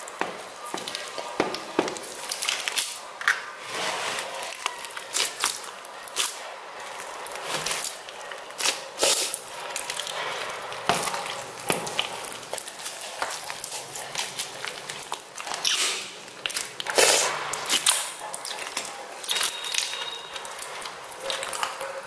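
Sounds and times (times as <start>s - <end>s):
slime squishing and popping: 0.0s - 3.5s, 4.2s - 21.8s.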